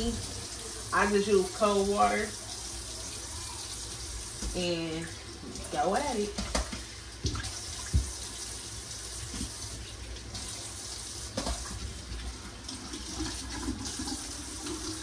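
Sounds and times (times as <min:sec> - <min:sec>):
faucet running: 0:00.0 - 0:15.0.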